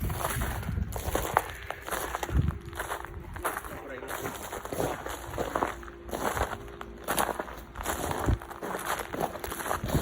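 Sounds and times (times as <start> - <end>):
footsteps on snow and ice: 0.0 - 10.0.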